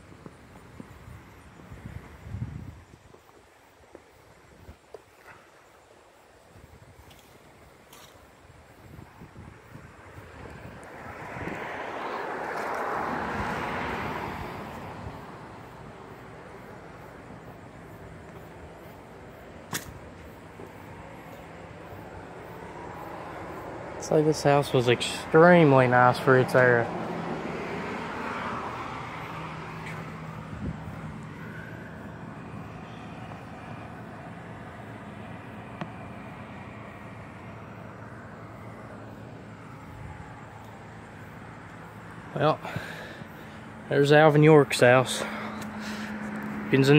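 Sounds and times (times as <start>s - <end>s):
vehicle passing by: 8.8s - 46.9s.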